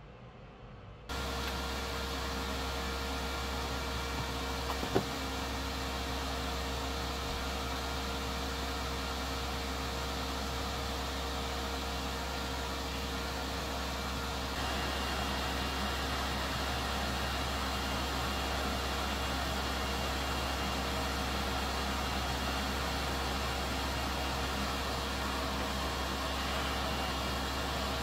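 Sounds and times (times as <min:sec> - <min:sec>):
hot air station hissing: 0:01.1 - 0:28.0.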